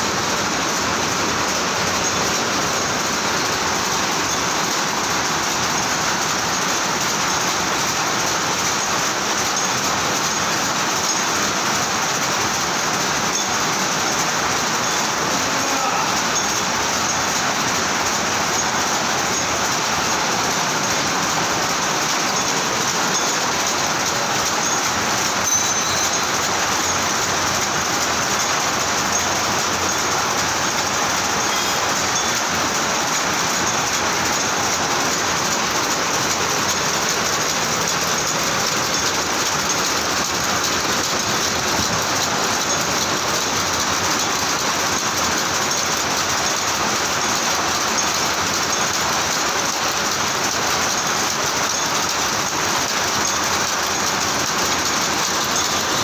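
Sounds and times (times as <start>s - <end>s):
power loom clattering: 0.0s - 56.0s.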